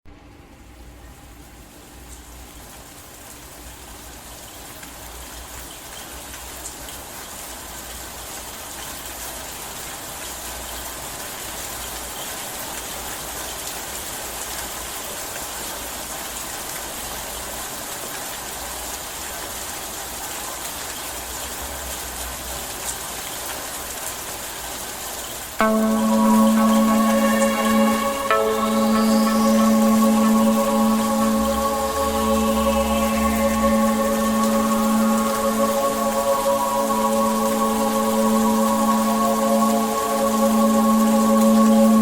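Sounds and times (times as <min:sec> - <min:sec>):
steady rainfall: 0:02.4 - 0:42.0.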